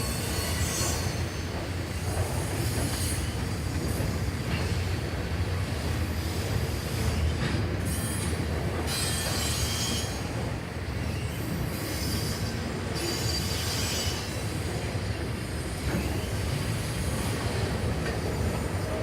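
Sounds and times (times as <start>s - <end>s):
freight train rumbling past: 0.0s - 19.0s
steel wheels hissing on rails: 0.0s - 19.0s.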